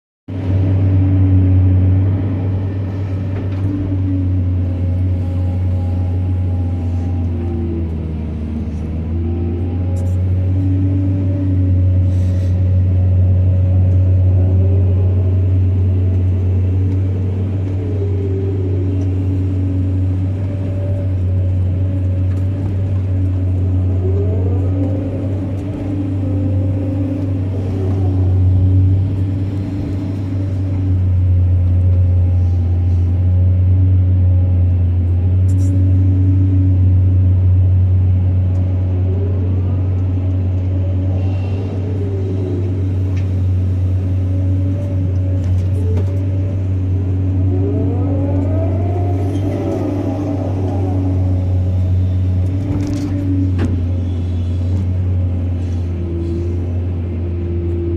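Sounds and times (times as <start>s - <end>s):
diesel engine droning: 0.3s - 57.9s.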